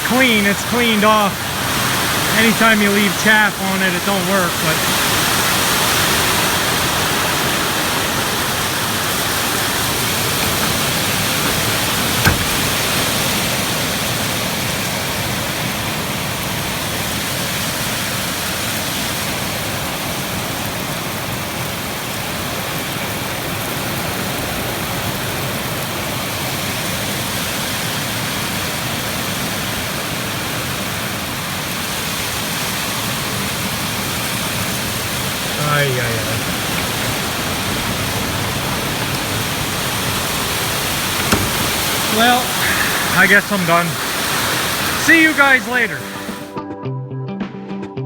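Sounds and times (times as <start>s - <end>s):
heavy rain pouring: 0.0s - 46.5s.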